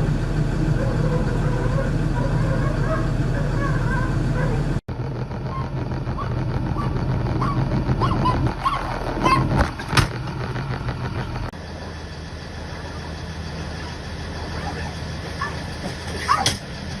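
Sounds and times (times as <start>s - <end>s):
engine-like hum: 0.0s - 17.0s.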